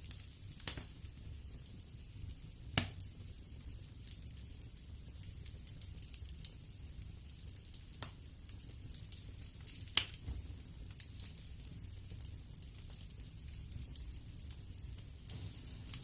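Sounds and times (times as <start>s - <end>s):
wood fire burning: 0.0s - 16.0s.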